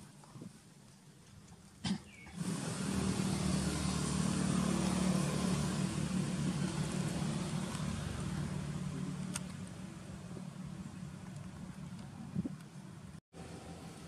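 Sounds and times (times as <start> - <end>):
vehicle engine running: 2.4 - 14.0.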